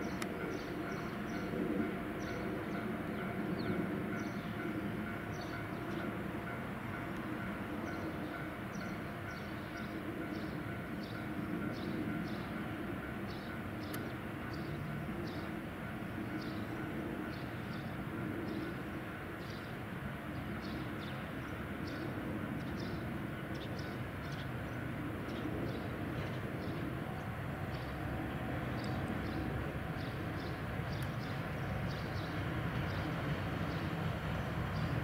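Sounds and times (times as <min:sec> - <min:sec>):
diesel locomotive engine rumbling: 0:00.0 - 0:35.0.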